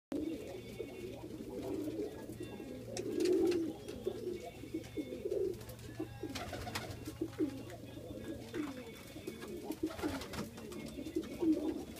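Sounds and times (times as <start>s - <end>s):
pigeons cooing: 0.1s - 11.9s.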